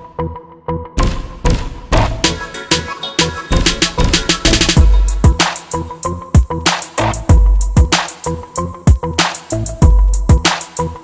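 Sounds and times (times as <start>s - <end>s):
electronic drum beat music: 1.0s - 11.0s.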